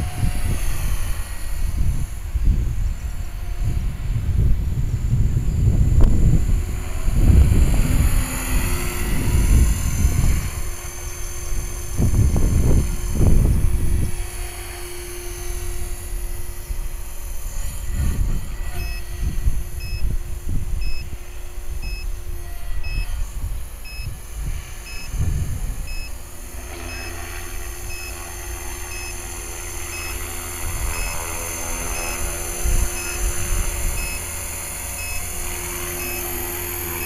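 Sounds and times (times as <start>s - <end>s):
rc helicopter hum: 0.0s - 37.0s
wind buffeting microphone: 0.0s - 37.0s.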